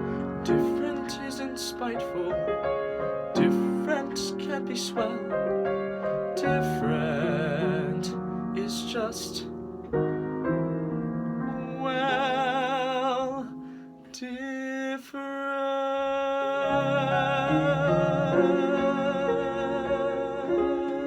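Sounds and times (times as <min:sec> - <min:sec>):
piano and orchestral accompaniment: 0:00.0 - 0:14.0, 0:16.4 - 0:21.0.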